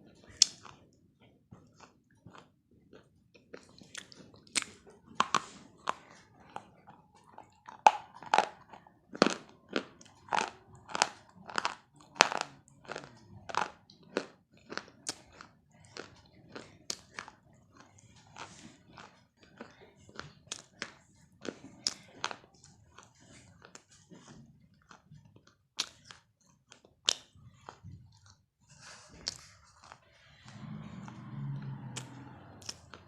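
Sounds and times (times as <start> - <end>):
crunching and chewing: 0.1 - 33.0.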